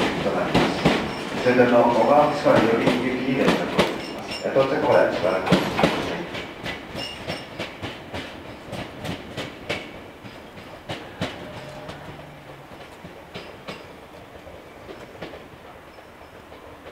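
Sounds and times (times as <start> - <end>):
train wheels clacking over rail joints: 0.0 - 16.9.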